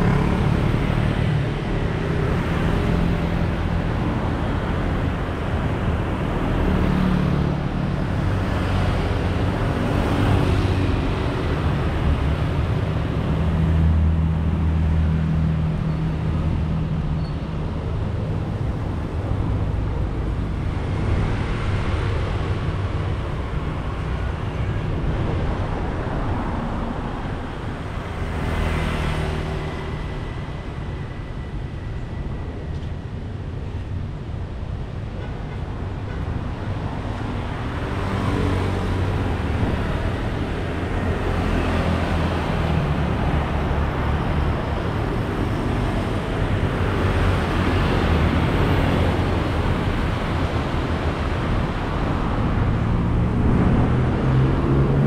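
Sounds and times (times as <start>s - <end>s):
cars and scooters passing: 0.0s - 55.0s.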